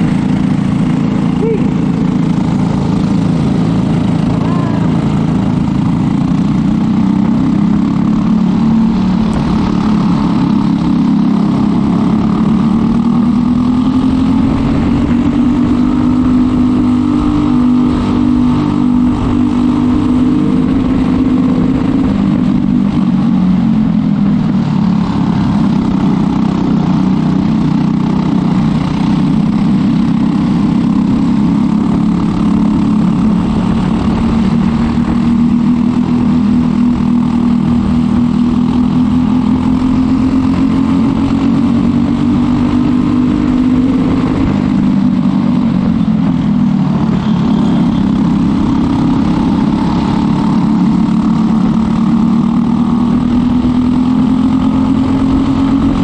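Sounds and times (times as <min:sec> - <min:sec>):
kart engine at race speed: 0:00.0 - 0:56.0.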